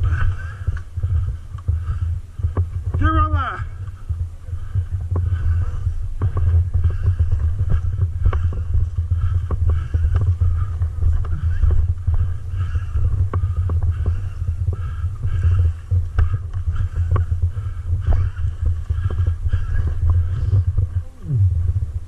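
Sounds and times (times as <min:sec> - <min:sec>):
low rumble on microphone: 0:00.0 - 0:22.0.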